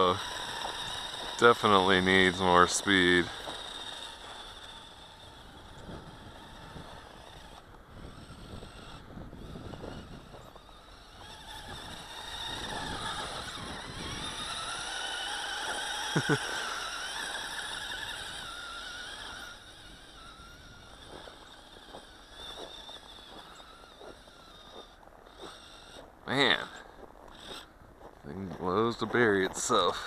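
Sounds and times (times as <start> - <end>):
small electric motor whining: 0.0 - 30.0.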